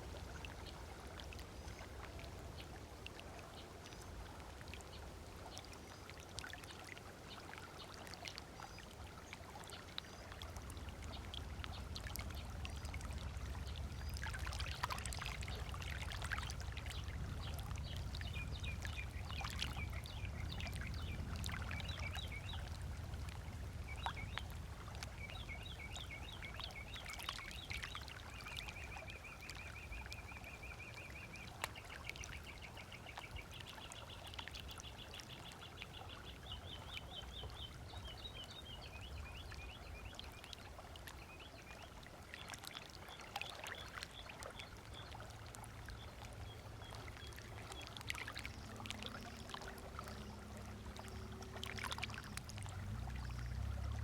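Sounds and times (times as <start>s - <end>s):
small splashes and clicks: 0.0s - 54.0s
water lapping on a beach: 0.0s - 54.0s.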